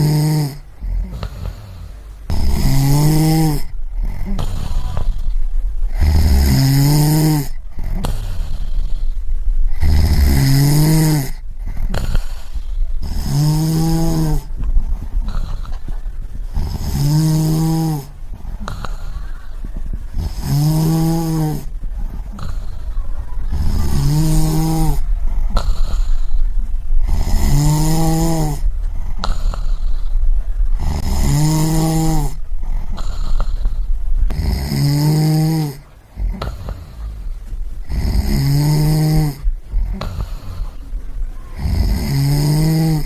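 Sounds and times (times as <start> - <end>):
person snoring: 0.0 - 40.8, 41.6 - 43.0.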